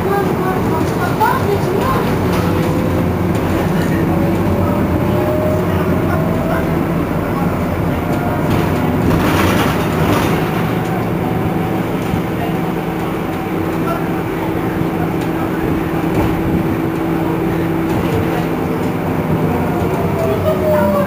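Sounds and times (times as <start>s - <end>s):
bus engine drone: 0.0s - 21.0s
road and body noise: 0.0s - 21.0s.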